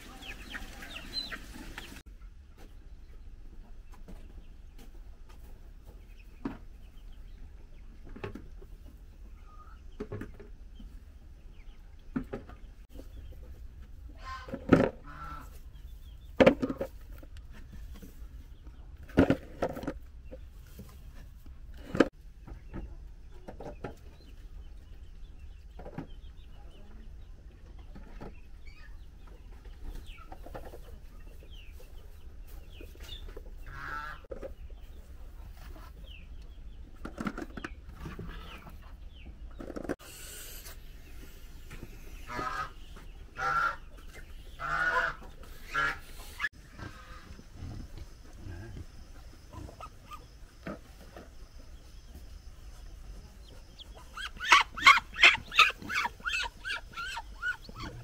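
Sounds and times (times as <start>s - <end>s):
chickens clucking: 0.0s - 40.0s, 40.6s - 58.0s.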